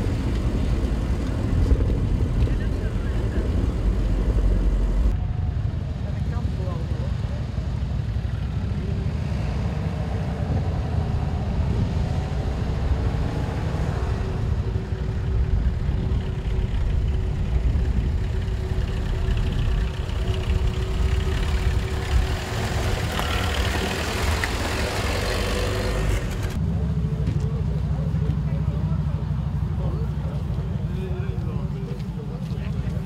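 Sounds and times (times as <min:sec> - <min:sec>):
jeep engine rumbling: 0:00.0 - 0:33.0.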